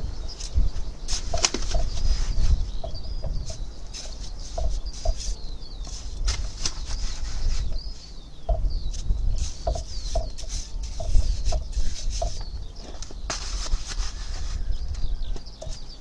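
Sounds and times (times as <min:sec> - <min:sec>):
birds clucking: 0:00.0 - 0:16.0
high bird chirps: 0:00.0 - 0:16.0.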